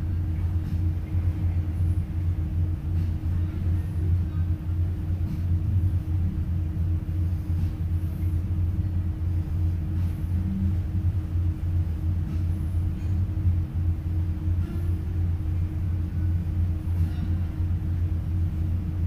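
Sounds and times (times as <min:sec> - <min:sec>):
diesel engines low drone: 0:00.0 - 0:19.0
high steady hum: 0:00.0 - 0:19.0.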